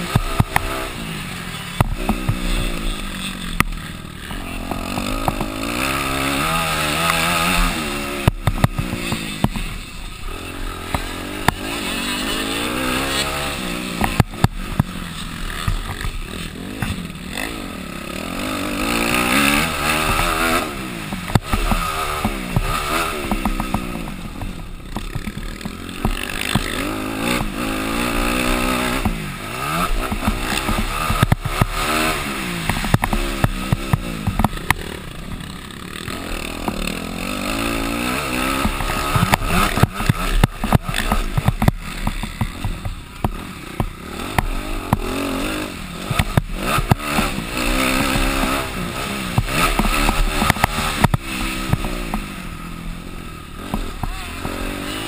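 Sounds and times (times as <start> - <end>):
motocross bike engine revving: 0.0 - 55.0
sharp knocks and clatter: 1.7 - 10.1, 10.7 - 17.1, 18.4 - 52.4, 53.6 - 55.0.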